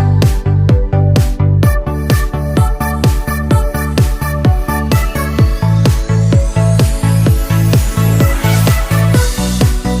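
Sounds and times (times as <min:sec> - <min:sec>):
electronic dance music: 0:00.0 - 0:10.0
kick drum beat: 0:00.0 - 0:10.0
sustained bass line: 0:00.0 - 0:10.0.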